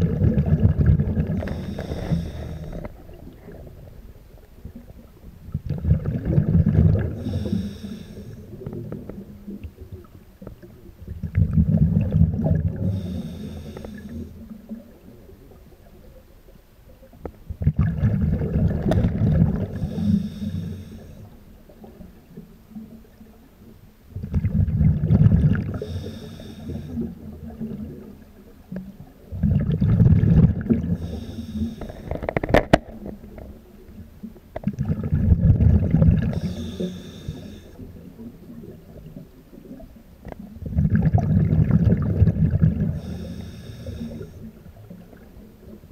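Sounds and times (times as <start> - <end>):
exhaled bubbles rumbling underwater: 0.0 - 45.9.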